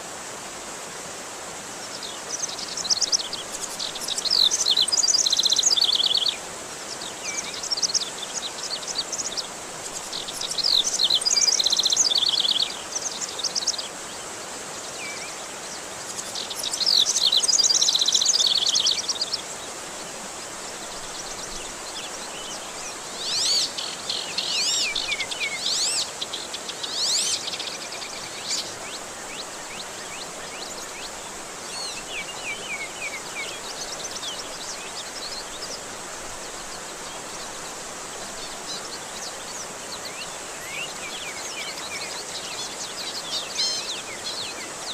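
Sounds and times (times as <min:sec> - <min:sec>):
steady rushing hiss: 0:00.0 - 0:44.9
songbird chirping and trilling: 0:01.9 - 0:13.9, 0:14.9 - 0:19.6, 0:20.6 - 0:44.9.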